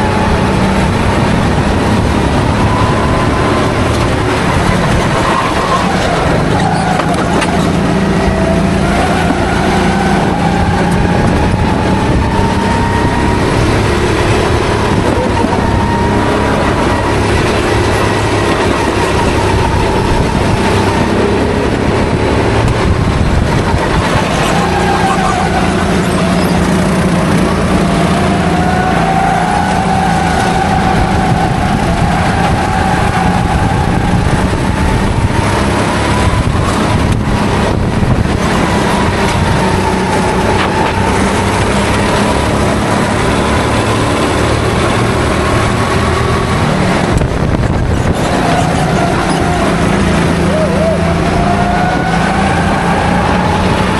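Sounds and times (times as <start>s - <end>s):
kart engine revving: 0.0s - 53.9s
other kart engines nearby: 0.0s - 53.9s.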